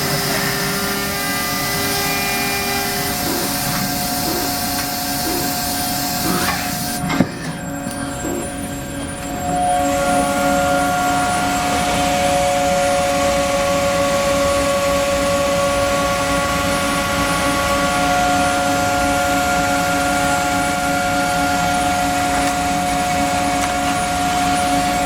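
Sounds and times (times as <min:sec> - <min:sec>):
milling machine whining: 0:00.0 - 0:25.0.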